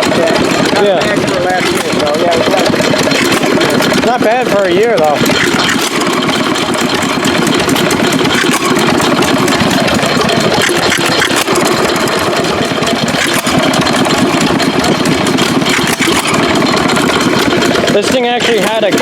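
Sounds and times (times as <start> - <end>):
stationary gas engine running: 0.0 - 19.0.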